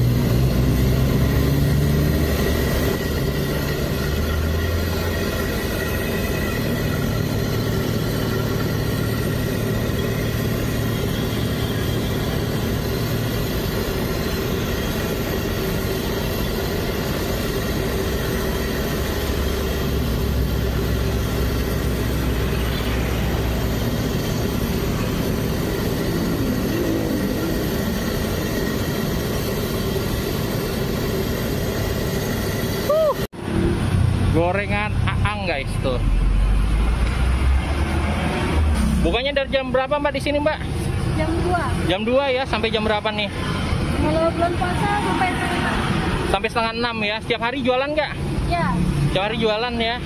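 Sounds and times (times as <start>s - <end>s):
street traffic: 0.0s - 50.0s
vehicle engine idling: 0.0s - 50.0s.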